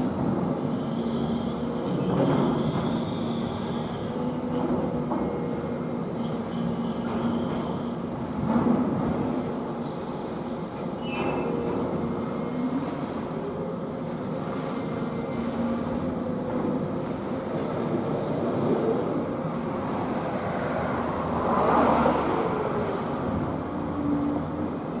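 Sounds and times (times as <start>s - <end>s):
dredger machinery humming: 0.0s - 25.0s
water: 0.0s - 25.0s
wind: 0.0s - 25.0s.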